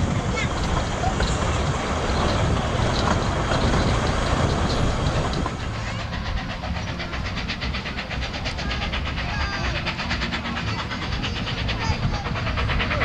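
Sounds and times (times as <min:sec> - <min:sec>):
miniature train rumbling: 0:00.0 - 0:13.0.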